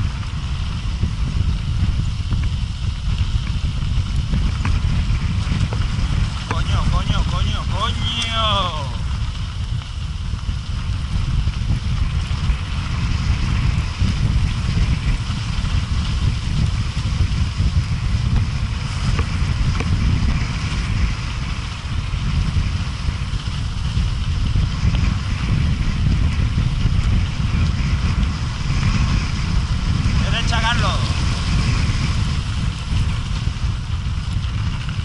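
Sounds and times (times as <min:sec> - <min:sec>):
bike tyres rolling on gravel: 0:00.0 - 0:35.0
wind buffeting microphone: 0:00.0 - 0:35.0.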